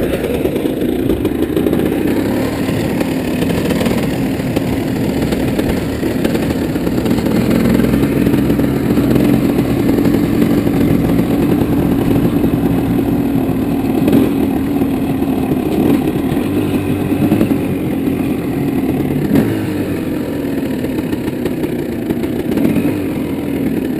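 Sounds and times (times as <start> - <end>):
off-road vehicle engine: 0.0 - 23.9.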